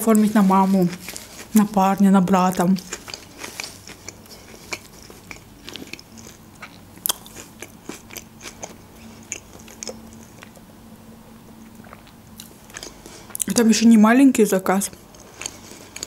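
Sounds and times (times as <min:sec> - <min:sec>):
close chewing: 0:00.1 - 0:10.6, 0:11.6 - 0:13.5, 0:14.9 - 0:16.0.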